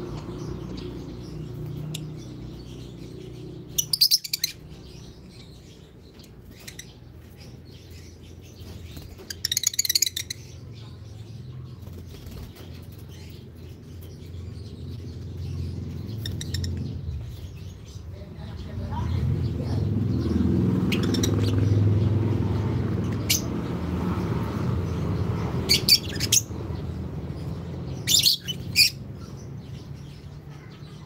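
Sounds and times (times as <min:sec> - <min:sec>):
lovebirds chattering shrilly: 0:00.0 - 0:31.0.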